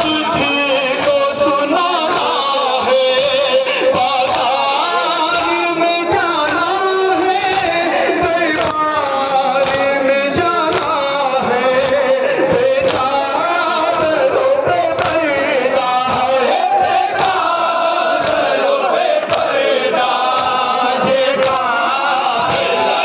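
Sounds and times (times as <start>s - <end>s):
man chanting through a microphone: 0.0s - 23.0s.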